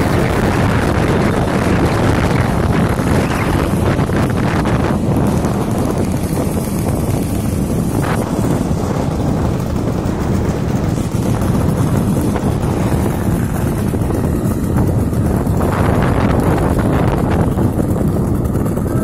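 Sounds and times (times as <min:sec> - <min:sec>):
scooter engine running: 0:00.0 - 0:19.0
wind buffeting microphone: 0:00.0 - 0:19.0.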